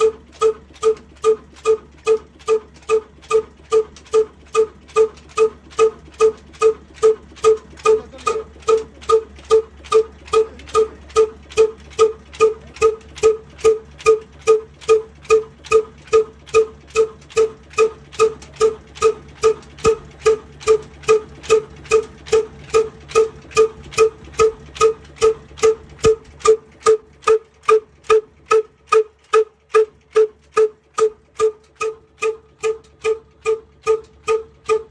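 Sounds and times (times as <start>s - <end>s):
diesel engine running slowly: 0.0s - 34.9s.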